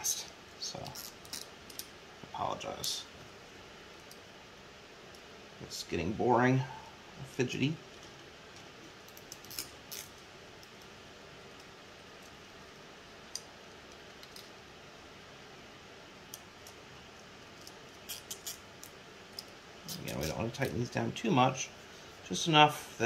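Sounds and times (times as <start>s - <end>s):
low room hiss: 0.0s - 23.0s.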